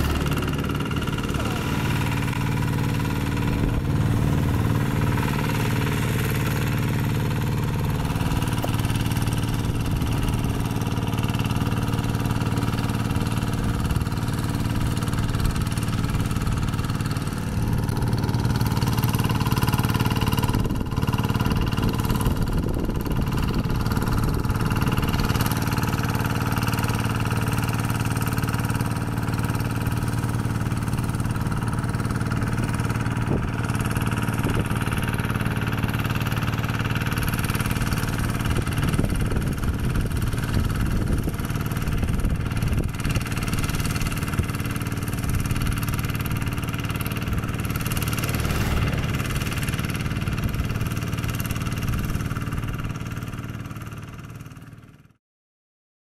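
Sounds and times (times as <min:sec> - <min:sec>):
paddle wheels churning water: 0:00.0 - 0:53.5
diesel engine running: 0:00.0 - 0:55.0.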